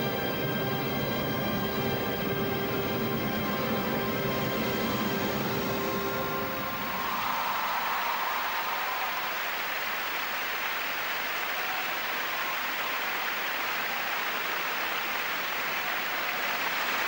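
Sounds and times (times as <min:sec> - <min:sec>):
large crowd applauding: 0:00.0 - 0:17.0.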